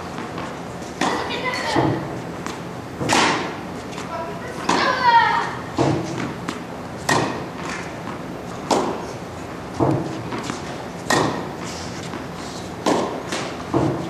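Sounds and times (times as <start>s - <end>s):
racket hitting tennis balls: 0.0s - 14.0s.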